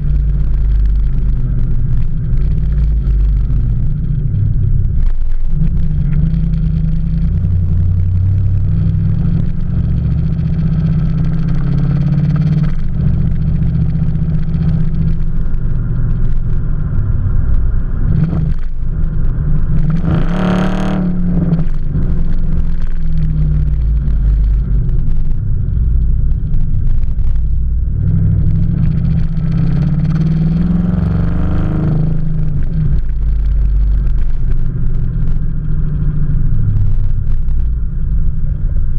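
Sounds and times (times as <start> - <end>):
car engine rumbling and revving: 0.0 - 38.9.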